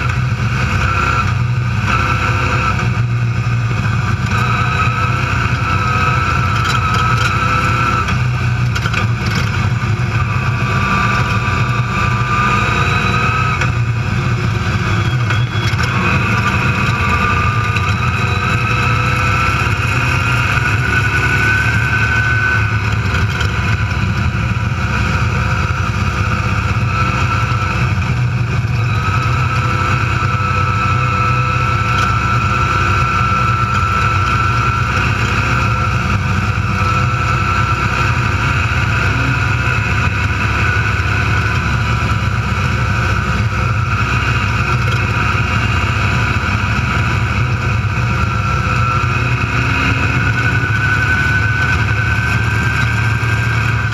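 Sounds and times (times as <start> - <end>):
race car engine from inside: 0.0 - 53.9.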